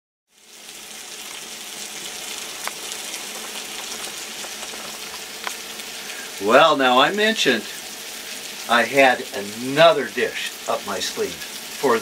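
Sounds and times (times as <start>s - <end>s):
vegetables sizzling in a pan: 0.3s - 12.0s.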